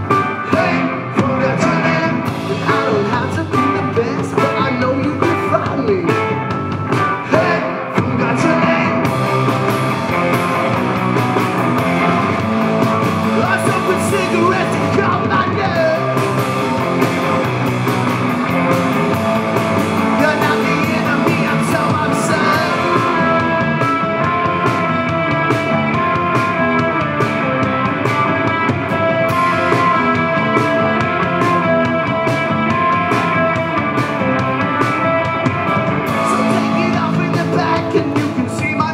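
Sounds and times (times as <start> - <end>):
drums: 0.0 - 38.9
electric guitars: 0.0 - 38.9
rock band playing live: 0.0 - 38.9.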